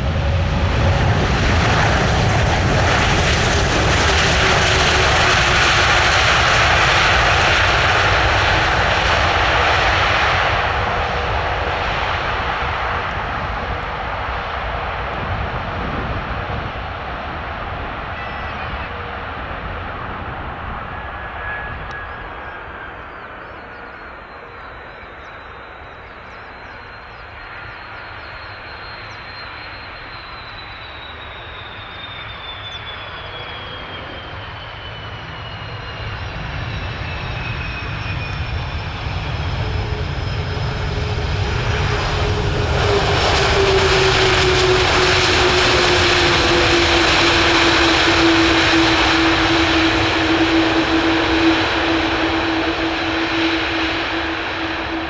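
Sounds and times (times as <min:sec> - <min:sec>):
jet engine roar: 0:00.0 - 0:55.0
jet engines whining: 0:00.0 - 0:55.0.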